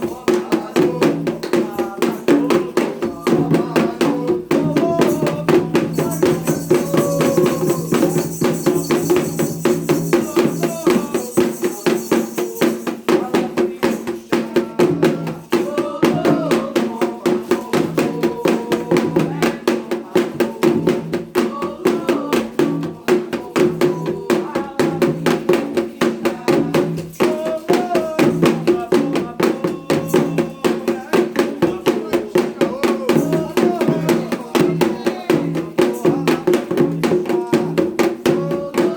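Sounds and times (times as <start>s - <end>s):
group of voices chanting: 0.0s - 8.3s, 10.1s - 38.9s
hand drums and percussion: 0.0s - 38.9s.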